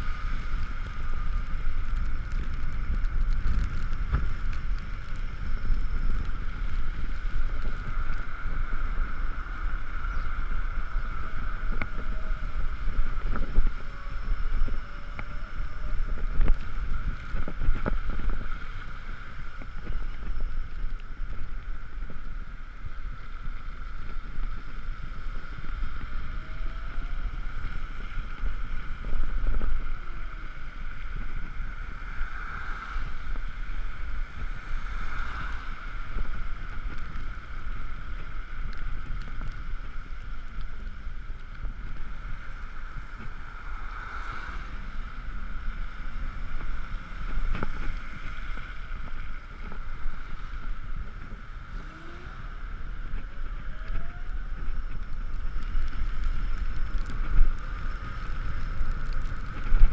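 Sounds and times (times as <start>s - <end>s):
steady high whine: 0.0s - 59.9s
tyres on wet road: 0.0s - 59.9s
wind rumbling on microphone: 0.0s - 59.9s.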